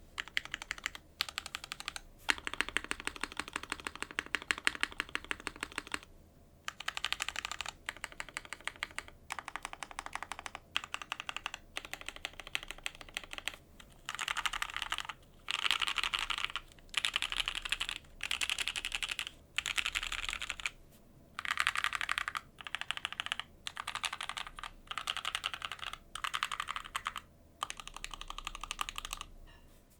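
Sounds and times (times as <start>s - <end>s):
mechanical keyboard typing: 0.2s - 6.1s, 6.7s - 20.8s, 21.4s - 29.3s.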